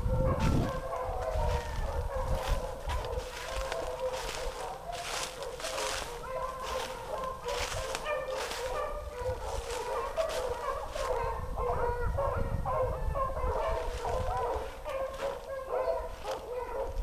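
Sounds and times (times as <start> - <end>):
dogs baying: 0.0 - 17.0
dry brush crackling: 0.4 - 11.3, 13.5 - 17.0.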